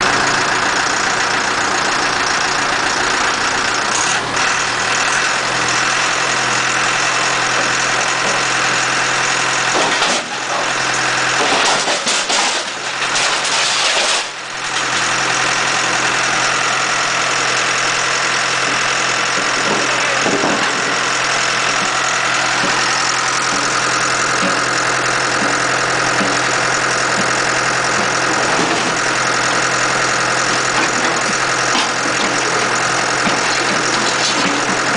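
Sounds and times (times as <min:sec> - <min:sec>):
rough uneven machine noise: 0:00.0 - 0:34.9
scrap-metal baler engine drone: 0:00.0 - 0:34.9.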